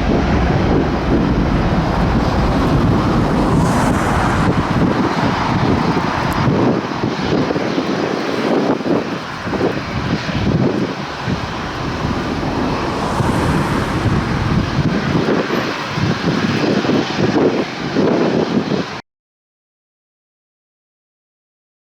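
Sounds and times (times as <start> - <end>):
jet engines of passing airliner: 0.0 - 19.0.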